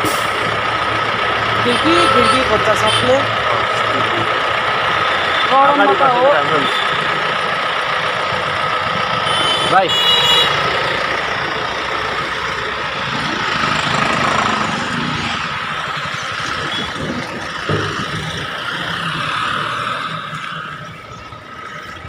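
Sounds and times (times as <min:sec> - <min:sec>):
street traffic passing: 0:00.0 - 0:22.0.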